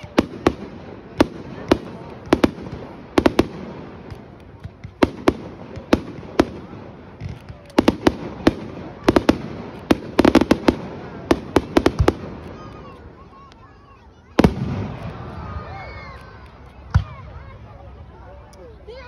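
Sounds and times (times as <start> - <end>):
fireworks bangs: 0.0 - 17.5.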